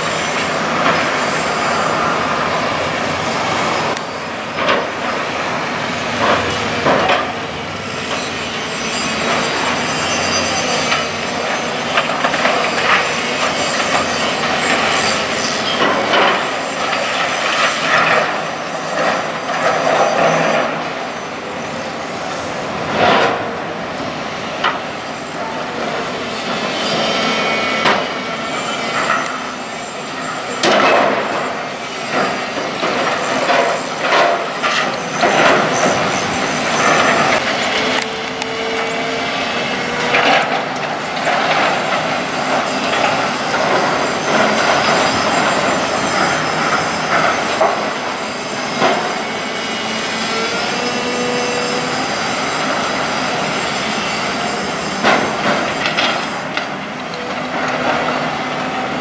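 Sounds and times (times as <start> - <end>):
metallic squeals: 0.0 - 5.4, 6.2 - 22.5, 25.0 - 59.0
excavators running: 0.0 - 59.0.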